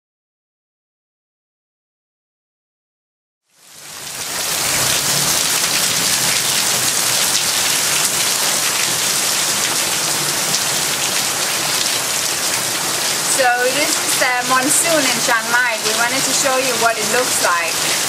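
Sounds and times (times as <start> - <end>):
heavy rain pouring: 3.5 - 18.0.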